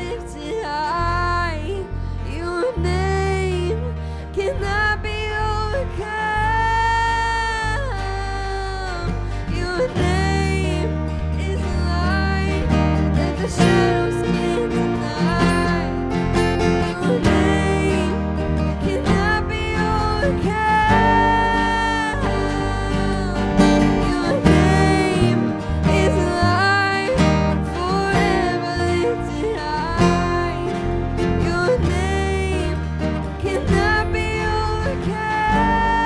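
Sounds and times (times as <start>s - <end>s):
acoustic guitar: 0.0s - 36.0s
sustained bass notes: 0.0s - 36.0s.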